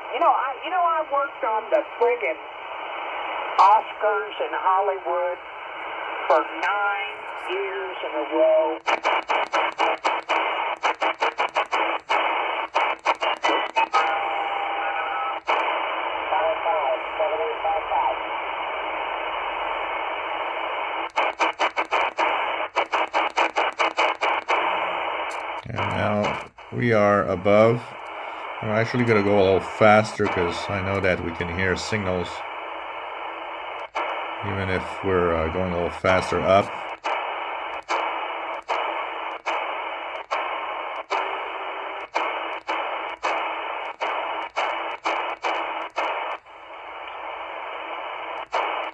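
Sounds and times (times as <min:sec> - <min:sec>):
radio static hiss: 0:00.0 - 0:48.9.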